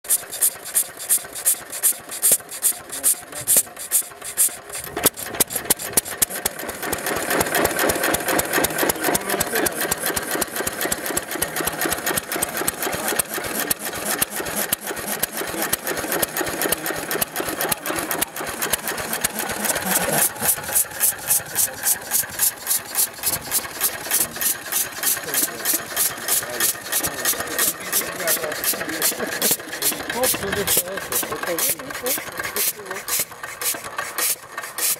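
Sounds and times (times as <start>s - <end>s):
stationary engine running: 0.0s - 34.9s.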